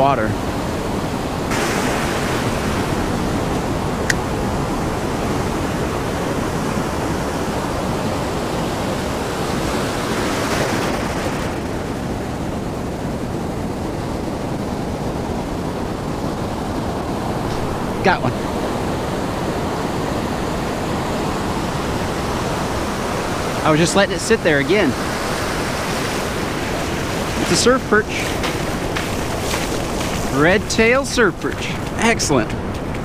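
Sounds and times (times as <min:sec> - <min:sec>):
ocean surf washing: 0:00.0 - 0:33.0.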